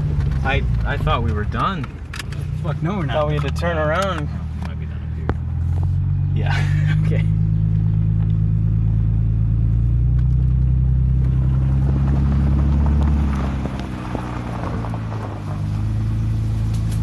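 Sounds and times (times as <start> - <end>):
car engine running: 0.0 - 17.0
tyres crunching over gravel: 0.0 - 17.0.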